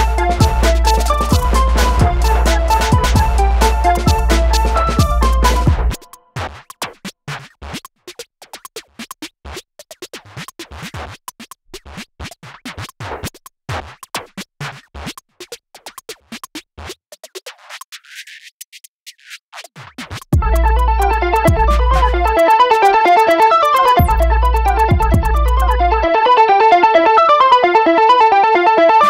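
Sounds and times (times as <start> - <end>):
stuttering chopped music: 0.0 - 27.6.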